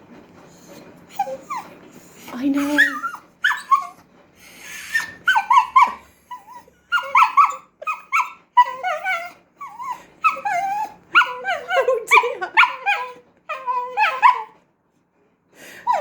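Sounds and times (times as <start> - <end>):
dog whining and grumbling: 0.6 - 14.6.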